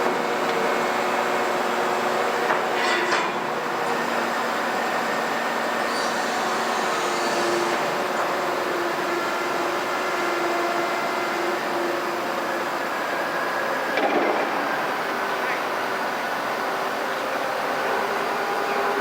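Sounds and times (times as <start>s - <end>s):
construction machinery engine hum: 0.0s - 19.0s.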